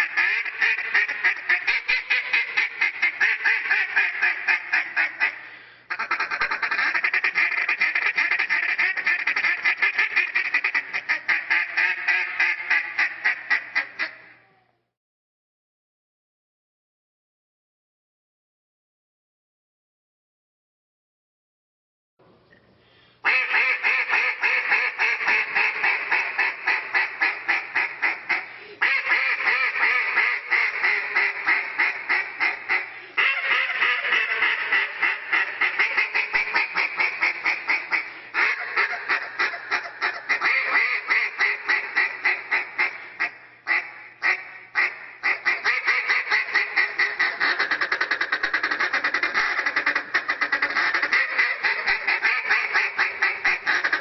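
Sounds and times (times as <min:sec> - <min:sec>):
duck call quacking: 0:00.0 - 0:14.3, 0:23.2 - 0:54.0.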